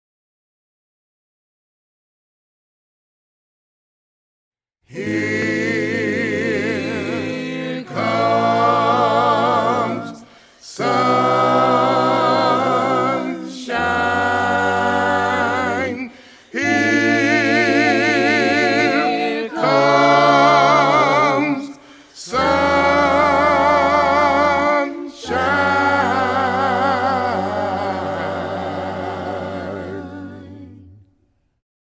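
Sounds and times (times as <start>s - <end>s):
voices singing in harmony: 4.9s - 31.2s.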